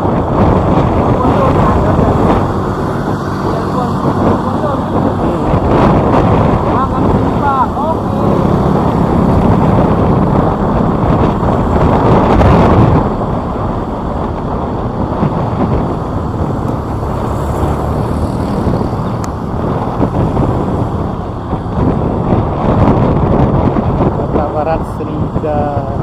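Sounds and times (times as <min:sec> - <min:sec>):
motorbike road noise: 0:00.0 - 0:26.0
wind rumbling on microphone: 0:00.0 - 0:26.0.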